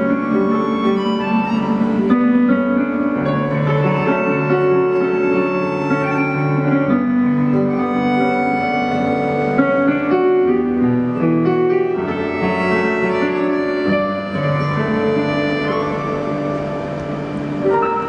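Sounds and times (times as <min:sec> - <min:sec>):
bowed strings: 0:00.0 - 0:18.0
piano: 0:00.0 - 0:18.0.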